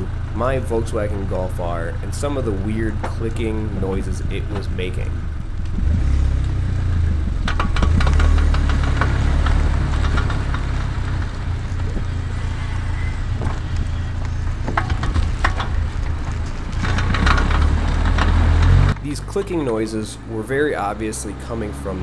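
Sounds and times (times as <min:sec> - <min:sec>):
car axle clicking: 0:00.0 - 0:21.8
tyre and wind noise: 0:00.0 - 0:22.0.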